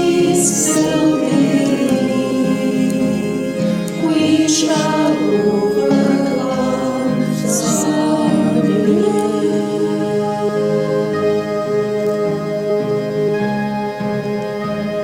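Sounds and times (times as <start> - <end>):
voices singing a hymn: 0.0 - 14.4
sustained instrumental accompaniment: 0.0 - 15.0.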